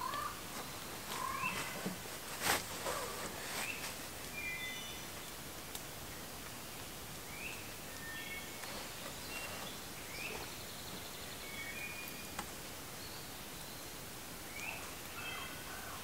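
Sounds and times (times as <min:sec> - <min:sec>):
steady faint hiss: 0:00.0 - 0:16.0
woodland birds calling: 0:00.0 - 0:16.0.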